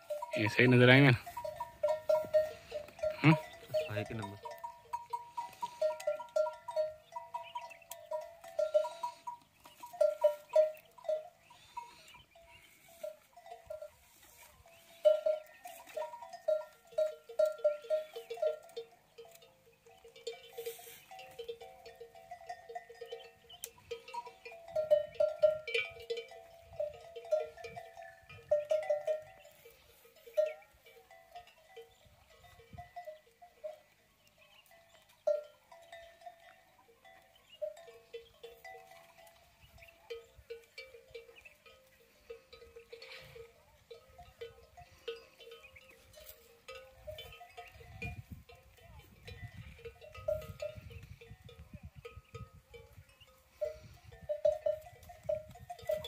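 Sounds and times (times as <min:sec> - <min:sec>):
metal bells clinking: 0:00.0 - 0:56.0.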